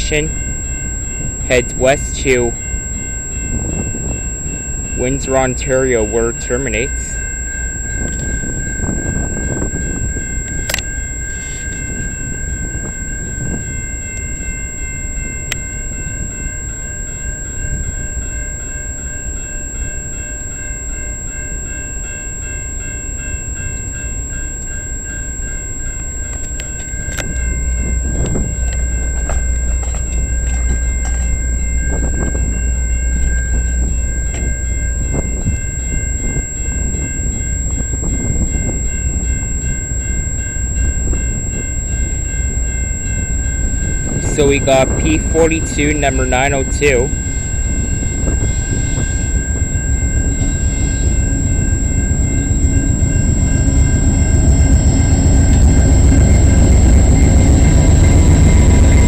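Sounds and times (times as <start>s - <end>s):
level crossing bell ringing: 0.0s - 59.0s
train rumble: 0.0s - 59.0s.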